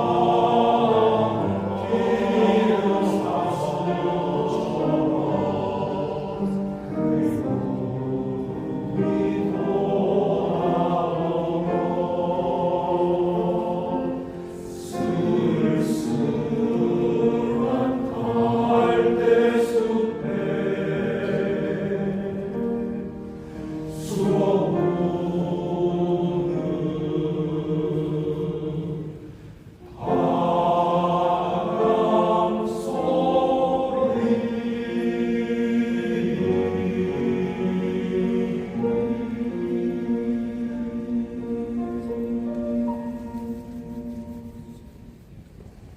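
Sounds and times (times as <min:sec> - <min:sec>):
male choir singing: 0:00.0 - 0:43.8.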